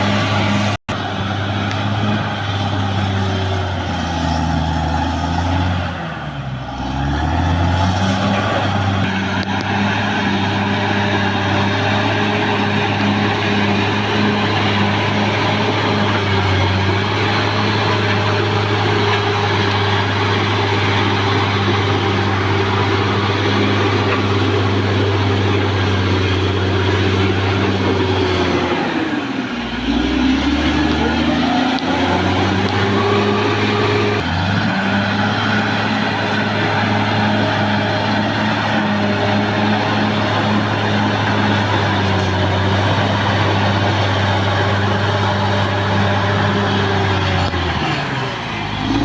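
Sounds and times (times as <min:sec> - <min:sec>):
bulldozer diesel engine running: 0:00.0 - 0:49.0.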